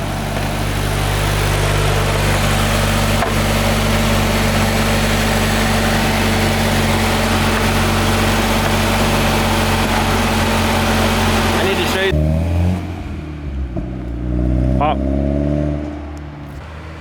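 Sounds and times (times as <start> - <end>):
car engine idling: 0.0 - 15.0, 15.8 - 17.0.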